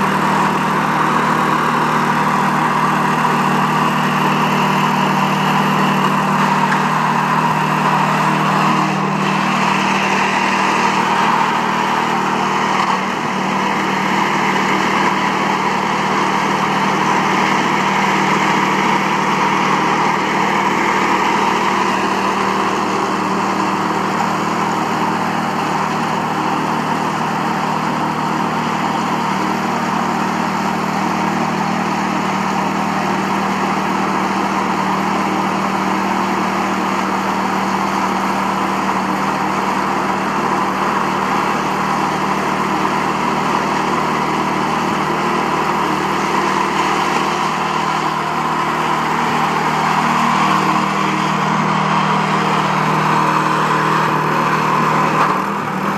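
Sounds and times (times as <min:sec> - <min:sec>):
petrol engine running: 0:00.0 - 0:55.9.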